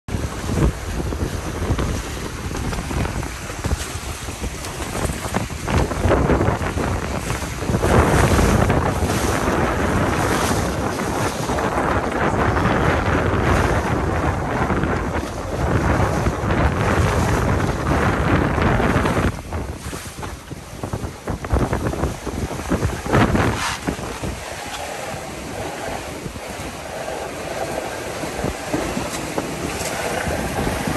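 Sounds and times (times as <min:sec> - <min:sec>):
water rushing along boat hulls: 0:00.0 - 0:30.9
wind buffeting microphone: 0:00.1 - 0:30.9.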